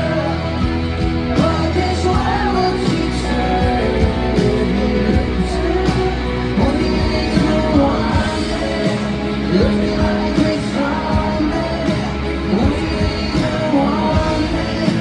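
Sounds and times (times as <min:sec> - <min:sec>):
person singing: 0:00.0 - 0:15.0
rock band playing: 0:00.0 - 0:15.0.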